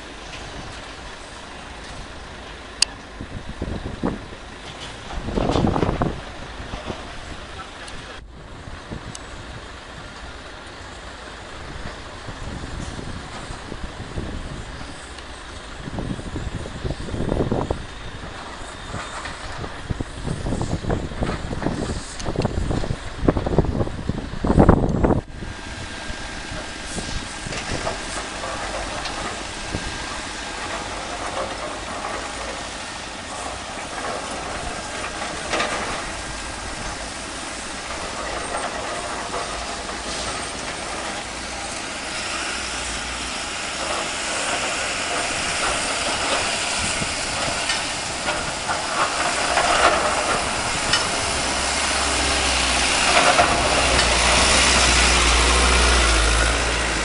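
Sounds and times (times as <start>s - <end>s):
deep engine rumble: 0.0s - 57.0s
diesel engines running: 0.0s - 57.0s.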